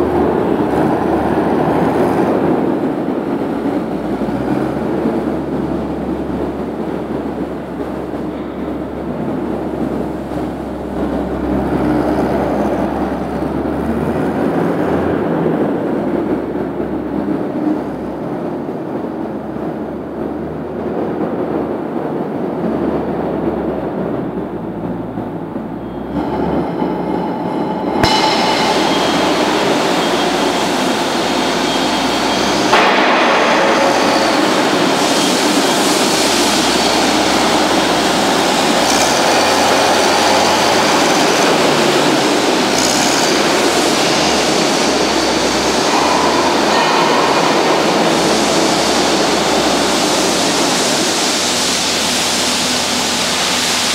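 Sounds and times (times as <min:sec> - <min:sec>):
skid steer loader engine: 0:00.0 - 0:53.9.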